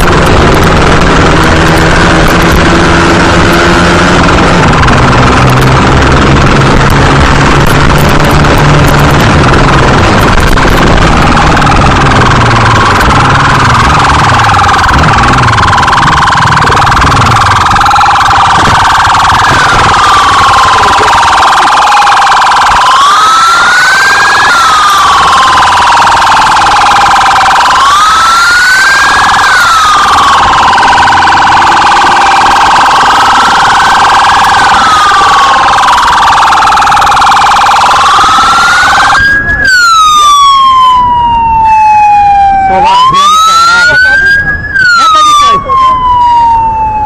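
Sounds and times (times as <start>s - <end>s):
constant electronic tone: 0.0s - 47.0s
police siren wailing: 0.0s - 47.0s.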